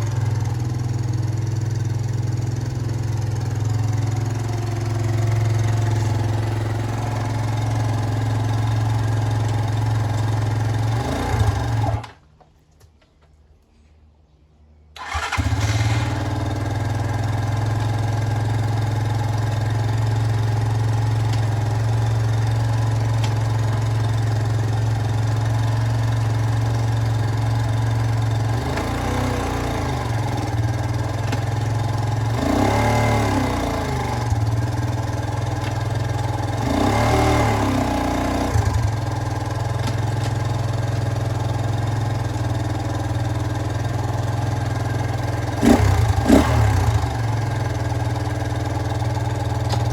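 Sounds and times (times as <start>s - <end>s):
motorcycle engine running: 0.0s - 12.0s, 15.0s - 49.9s.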